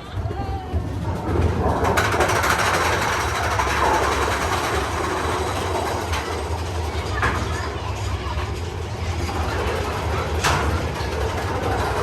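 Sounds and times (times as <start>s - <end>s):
ride car clattering on track: 0.0s - 12.0s.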